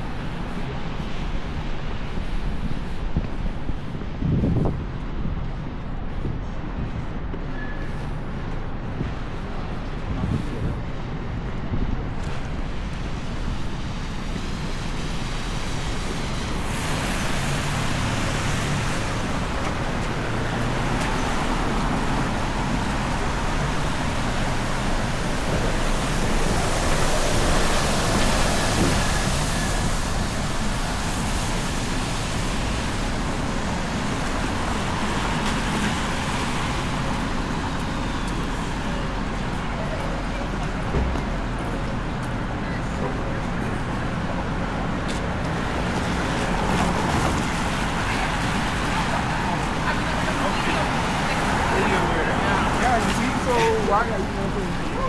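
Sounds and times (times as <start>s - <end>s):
passing cars: 0.0s - 55.0s.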